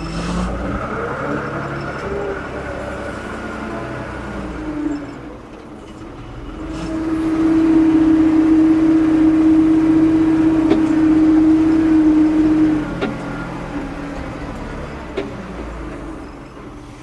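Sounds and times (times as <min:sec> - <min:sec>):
diesel engine whine: 0:00.0 - 0:17.0.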